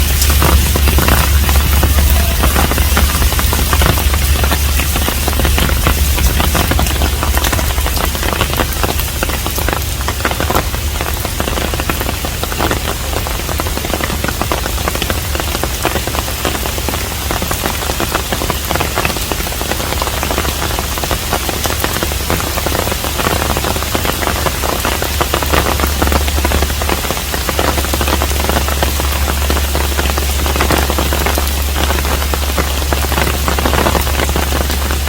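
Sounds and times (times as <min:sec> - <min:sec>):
low rumble: 0:00.0 - 0:35.0
rain hissing: 0:00.0 - 0:35.0
raindrops pattering: 0:00.0 - 0:35.0.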